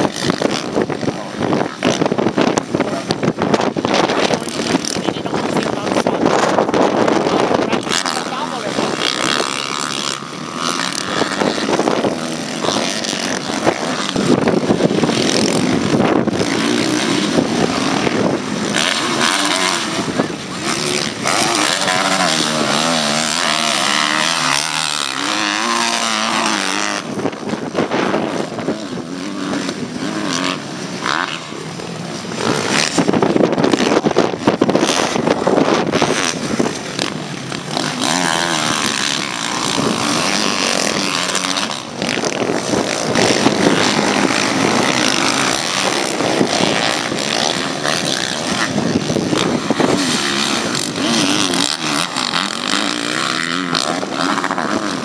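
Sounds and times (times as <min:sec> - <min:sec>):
motocross bikes revving: 0:00.0 - 0:55.0.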